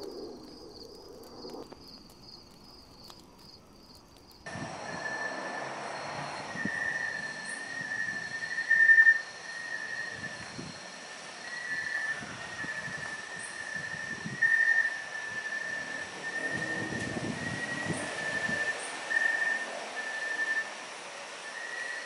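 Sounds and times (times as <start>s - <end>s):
night insects droning: 0.0s - 22.0s.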